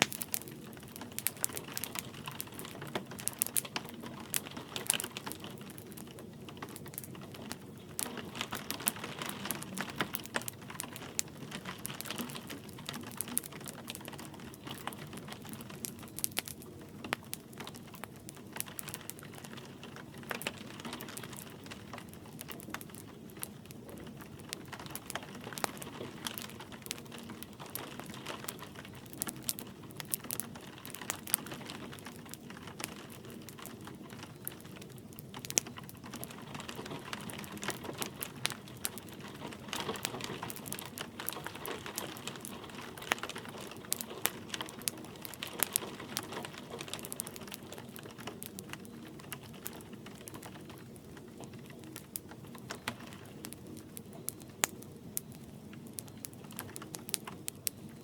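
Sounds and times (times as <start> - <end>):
light rain hiss: 0.0 - 58.0
wood fire crackling and popping: 0.0 - 58.0.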